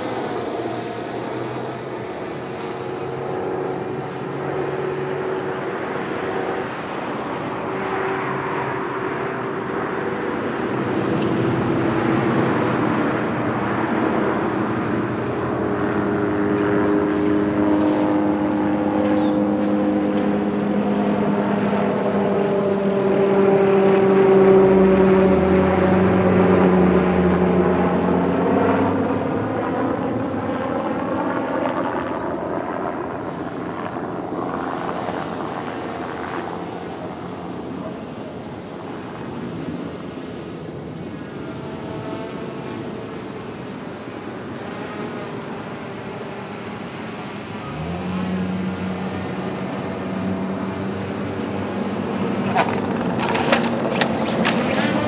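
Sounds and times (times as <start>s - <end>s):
drone rotors humming: 0.0s - 55.0s.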